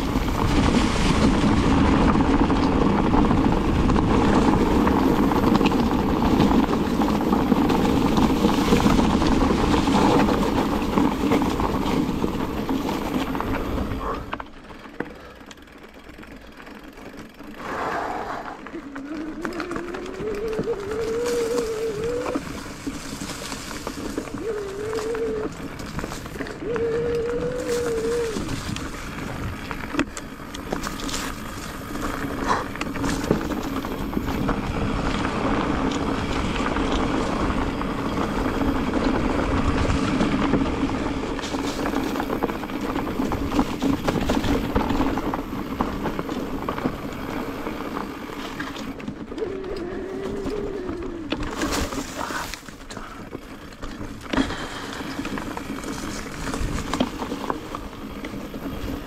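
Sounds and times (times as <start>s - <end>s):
bike knocking and rattling: 0.0s - 59.0s
bike tyres on dirt trail: 0.0s - 59.0s.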